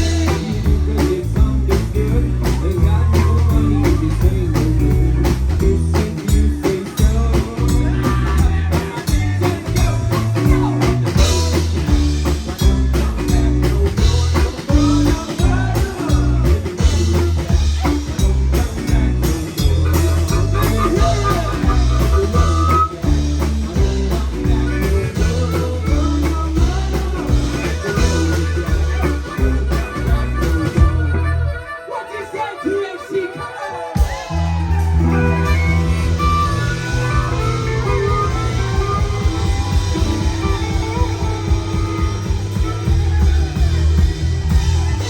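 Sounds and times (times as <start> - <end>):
drum kit: 0.0 - 31.6, 33.8 - 45.0
bass guitar: 0.0 - 31.8, 33.8 - 45.0
guitars: 0.0 - 45.0.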